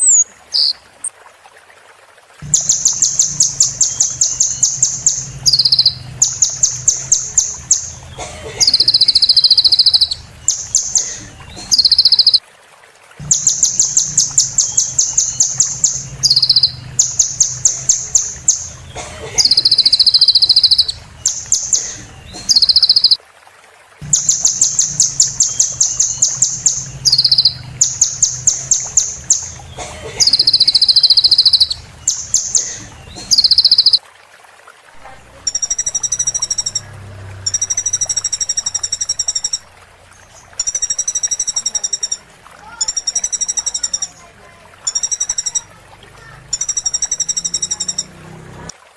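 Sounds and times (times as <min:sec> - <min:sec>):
sunbird singing: 0:00.0 - 0:01.1, 0:02.4 - 0:12.4, 0:13.2 - 0:23.2, 0:24.0 - 0:34.0, 0:35.3 - 0:48.2.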